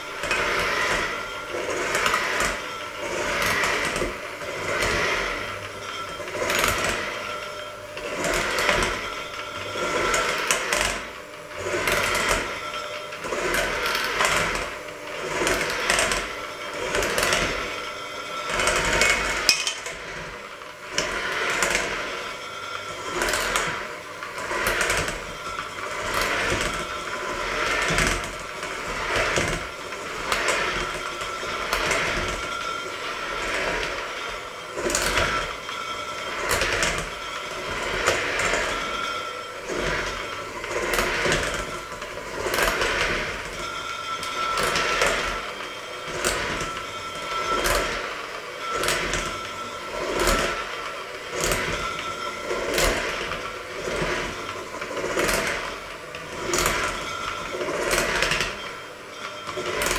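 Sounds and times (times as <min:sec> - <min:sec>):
electric hand mixer whining: 0:00.0 - 0:59.9.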